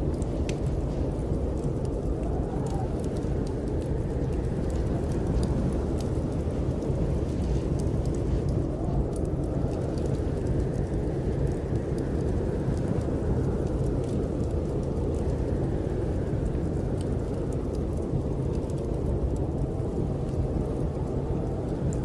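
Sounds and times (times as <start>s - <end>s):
snowstorm wind rumbling: 0.0s - 22.0s
wood fire crackling: 0.0s - 22.0s.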